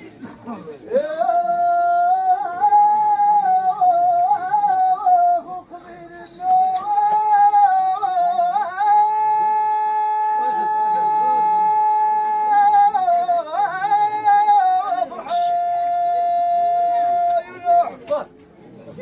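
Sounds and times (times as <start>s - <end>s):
person chanting a melody: 1.0s - 17.6s.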